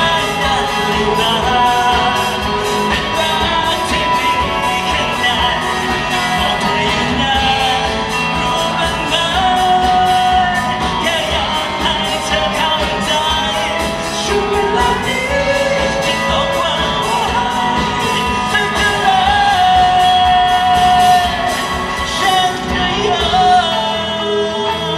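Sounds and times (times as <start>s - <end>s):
pop-rock band playing live: 0.0s - 24.9s
steady drum beat: 0.0s - 24.9s.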